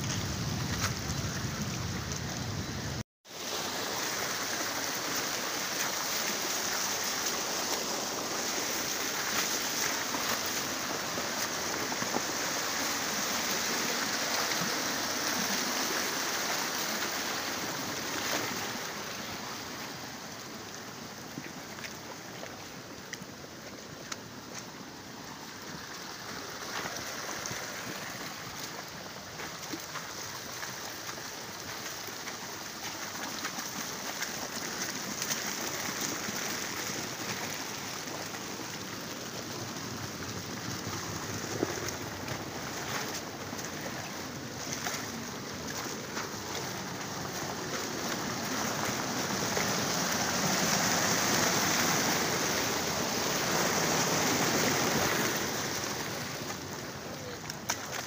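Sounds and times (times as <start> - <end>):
floodwater rushing: 0.0 - 58.0.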